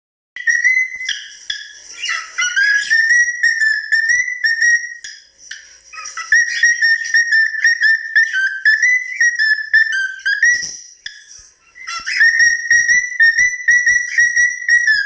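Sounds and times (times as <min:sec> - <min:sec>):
cockatiel whistling: 0:00.4 - 0:15.0.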